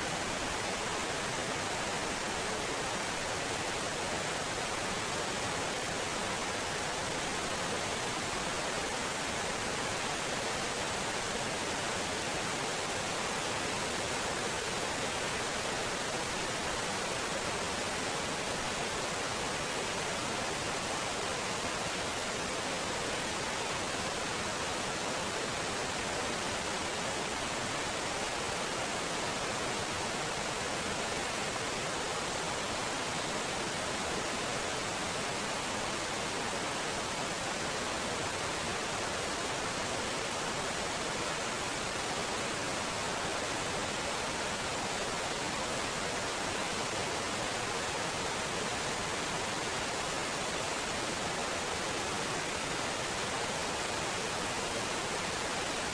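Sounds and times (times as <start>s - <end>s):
waterfall rushing over rocks: 0.0s - 55.9s.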